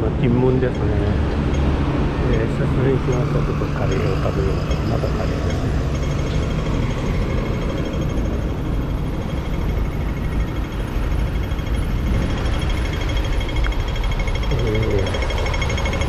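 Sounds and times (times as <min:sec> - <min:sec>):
crossing signal ticking rapidly: 0:00.0 - 0:16.0
low rumble of street noise: 0:00.0 - 0:16.0.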